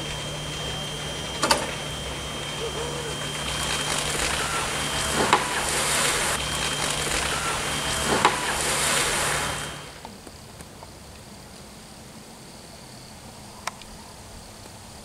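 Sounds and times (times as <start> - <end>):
tow system mechanical hum: 0.0 - 15.0.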